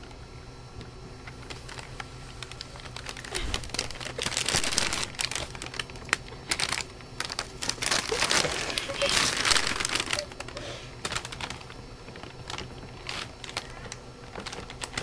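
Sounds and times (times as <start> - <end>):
plastic bag crinkling: 1.4 - 15.0.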